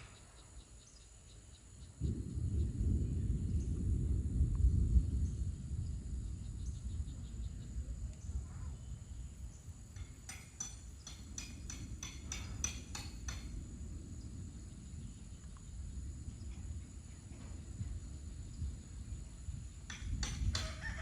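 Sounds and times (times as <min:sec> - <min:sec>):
faint high insect drone: 0:00.0 - 0:21.0
wind rumbling on microphone: 0:00.0 - 0:21.0.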